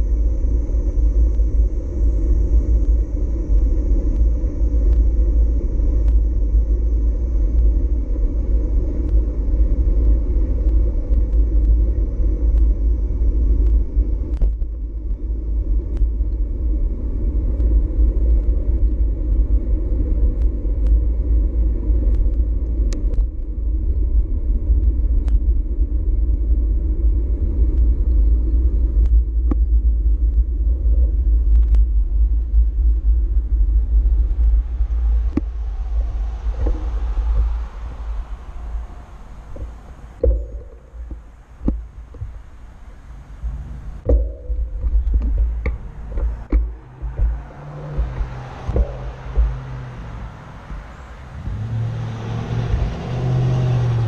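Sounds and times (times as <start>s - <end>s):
bicycle tyres rolling on trail: 0.0s - 54.0s
wind on microphone: 0.0s - 54.0s.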